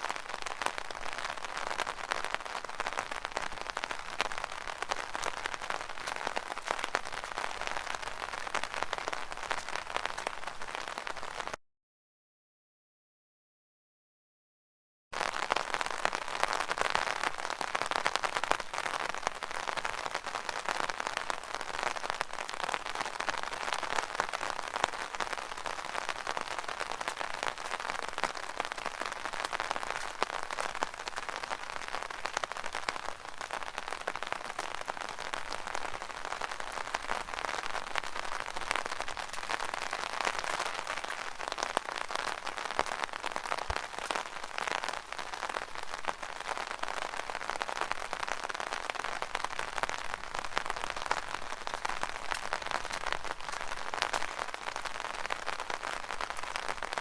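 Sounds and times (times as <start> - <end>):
rain on an umbrella: 0.0 - 11.6, 15.1 - 57.0.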